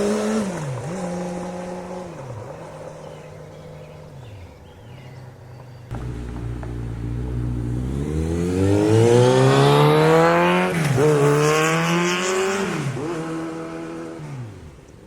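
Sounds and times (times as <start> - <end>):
motorcycle engine accelerating: 0.0 - 5.3, 5.9 - 14.9.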